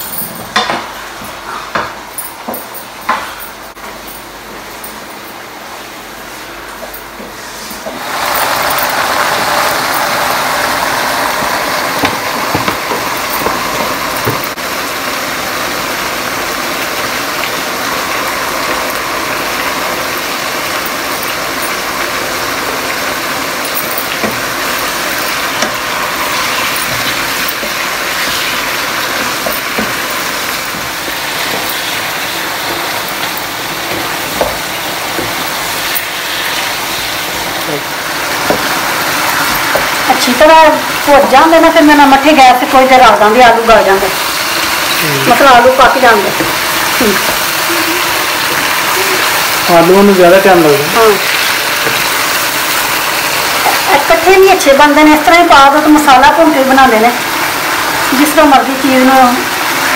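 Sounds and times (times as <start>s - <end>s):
vegetables sizzling in oil: 5.4s - 59.9s.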